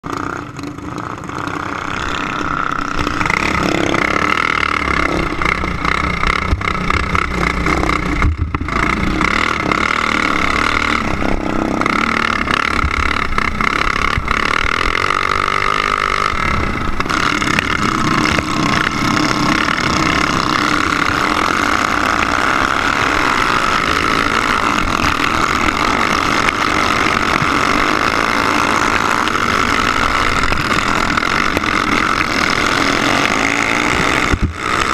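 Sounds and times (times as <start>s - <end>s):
go-kart engine high revs: 0.0s - 34.9s.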